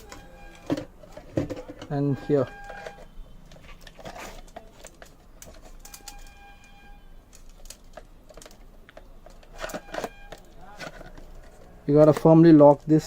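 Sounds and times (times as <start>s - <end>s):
plastic parts clicking and knocking: 0.0s - 13.0s.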